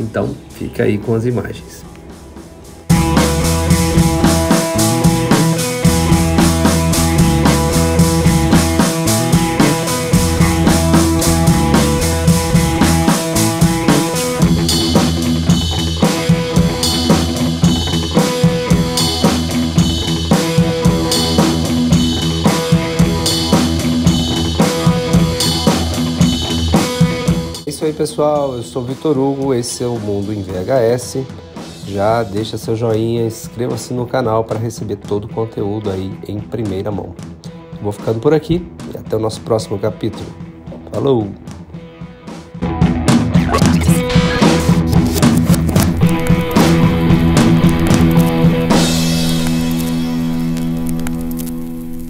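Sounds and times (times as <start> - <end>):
music with steady drum beat: 0.0 - 52.0.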